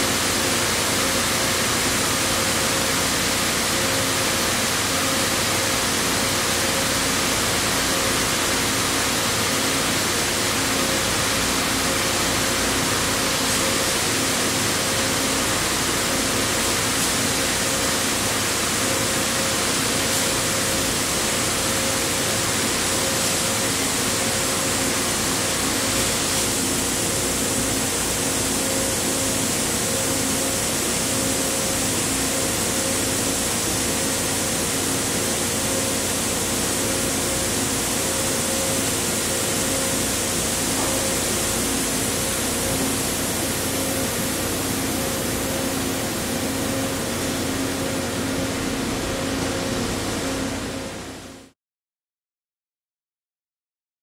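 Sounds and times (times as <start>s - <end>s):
loud machine hiss: 0.0s - 51.1s.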